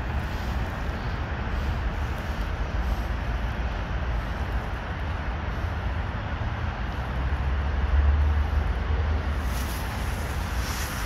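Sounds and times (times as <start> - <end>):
low urban background rumble: 0.0 - 11.0.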